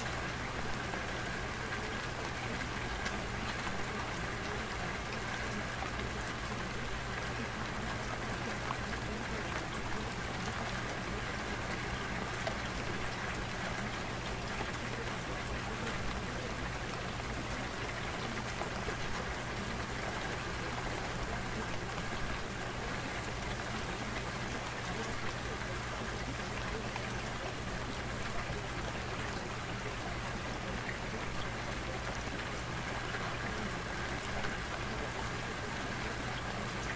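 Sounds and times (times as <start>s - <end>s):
faint low hum: 0.0s - 36.9s
steady rain-like hiss: 0.0s - 36.9s.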